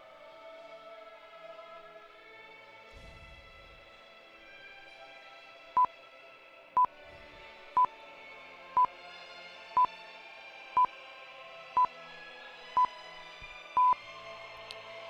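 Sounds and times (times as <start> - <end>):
quiet ambient music: 0.0 - 15.0.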